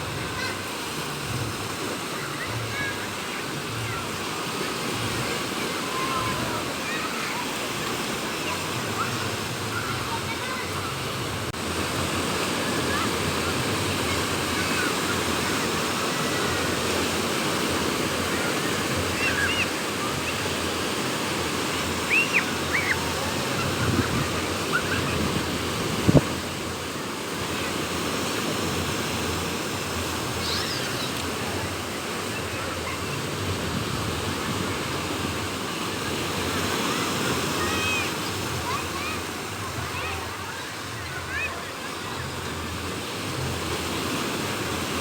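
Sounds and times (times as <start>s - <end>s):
sea waves breaking on beach: 0.0s - 45.0s
wind: 0.0s - 45.0s.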